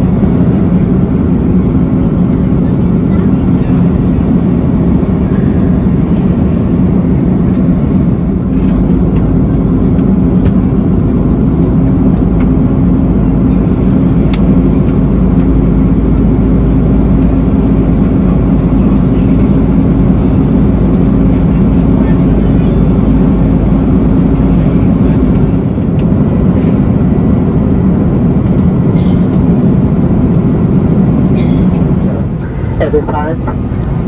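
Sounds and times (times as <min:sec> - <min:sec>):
airliner cabin engine drone: 0:00.0 - 0:34.0.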